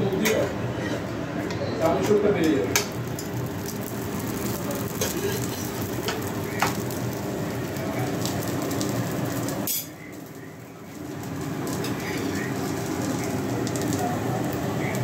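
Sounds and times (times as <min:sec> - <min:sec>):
flatbread sizzling in oil: 0:02.8 - 0:15.0.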